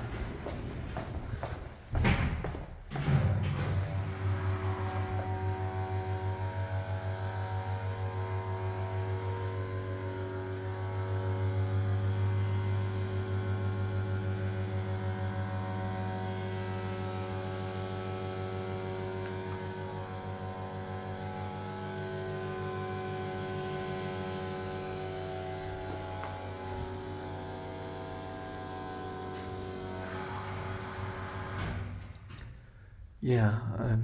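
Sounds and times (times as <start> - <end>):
hydraulic lift pump humming and whining: 0.0 - 33.1.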